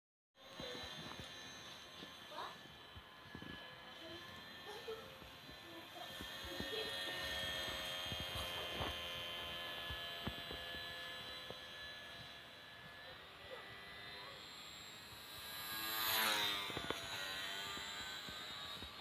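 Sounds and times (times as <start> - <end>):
small electric motor whining: 0.4 - 19.0.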